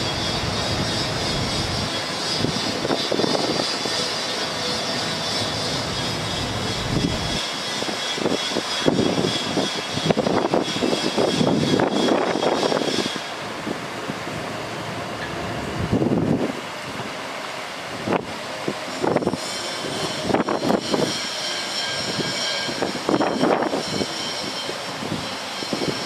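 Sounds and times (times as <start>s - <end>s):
wind buffeting microphone: 0.0s - 4.1s, 5.3s - 14.2s, 15.4s - 17.1s, 18.0s - 26.0s
steady high whine: 0.0s - 26.0s.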